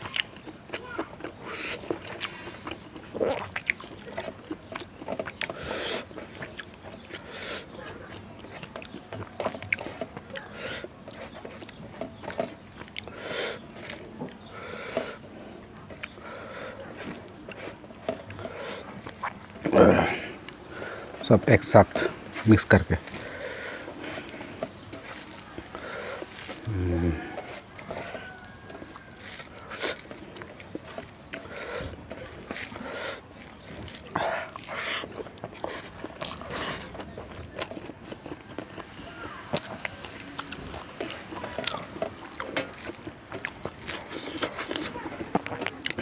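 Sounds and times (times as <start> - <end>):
chewing food: 0.0 - 46.0.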